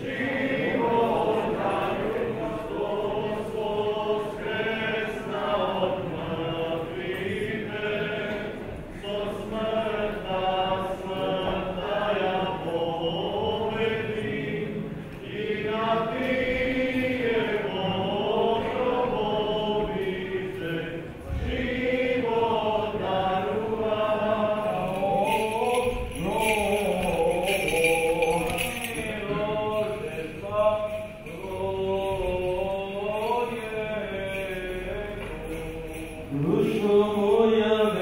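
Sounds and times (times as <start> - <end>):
cantors chanting liturgy: 0.0 - 38.0.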